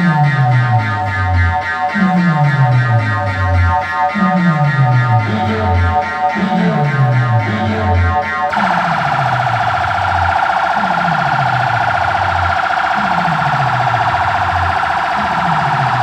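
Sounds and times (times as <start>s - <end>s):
warbling electronic alarm: 0.0s - 16.0s.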